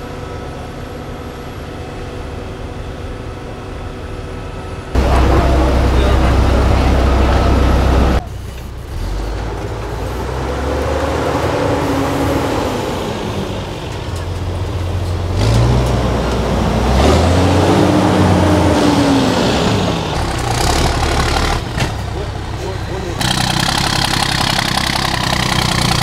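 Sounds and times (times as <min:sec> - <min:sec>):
truck engine revving: 0:04.2 - 0:26.0.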